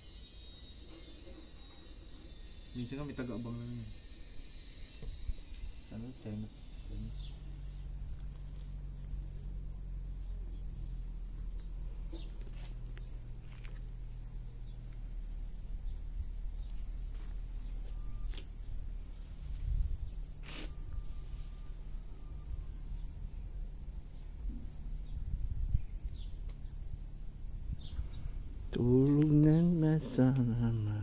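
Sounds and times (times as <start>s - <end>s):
high-pitched insect chirring: 0.0s - 31.0s
low steady hum: 0.0s - 31.0s.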